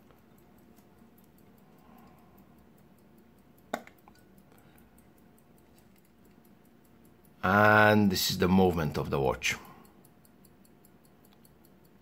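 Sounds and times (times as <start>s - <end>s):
fast watch ticking: 0.0s - 12.0s.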